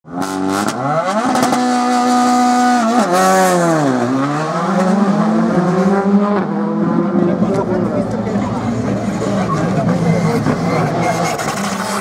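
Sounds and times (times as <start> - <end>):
rally car engine revving: 0.1 - 12.0.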